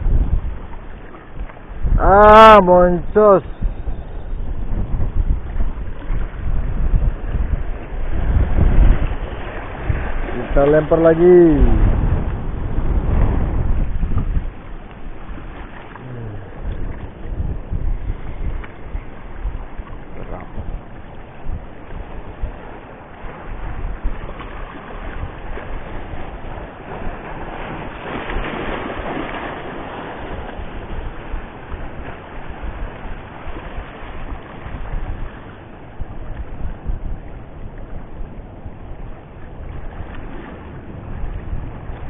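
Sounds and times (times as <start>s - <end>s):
sea waves: 0.0s - 42.0s
wind buffeting microphone: 0.0s - 42.0s.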